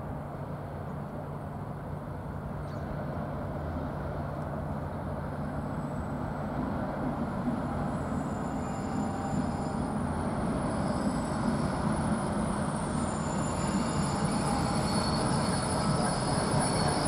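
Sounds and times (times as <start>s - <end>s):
diesel locomotive engine drone: 0.0s - 17.0s
train rumbling: 0.0s - 17.0s.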